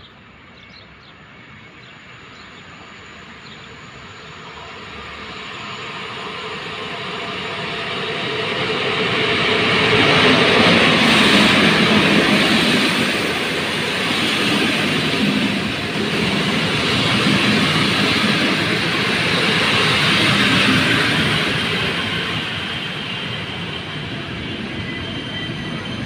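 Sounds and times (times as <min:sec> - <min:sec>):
train passing on rails: 0:00.0 - 0:26.0.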